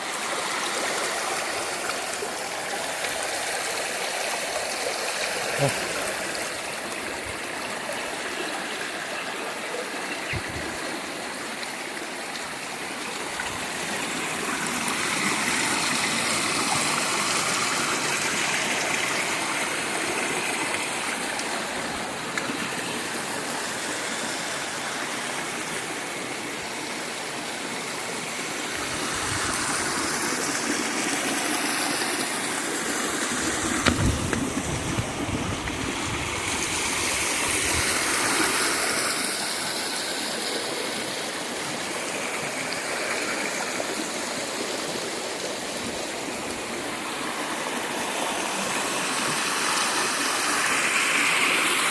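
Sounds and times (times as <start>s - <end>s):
water pouring over waterfall: 0.0s - 51.9s.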